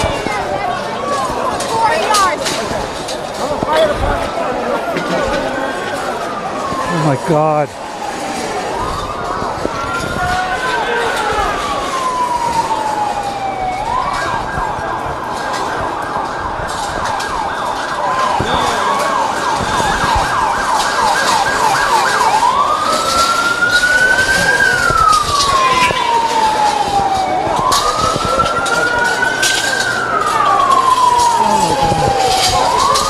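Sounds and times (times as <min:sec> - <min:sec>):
emergency siren wailing and yelping: 0:00.0 - 0:33.0.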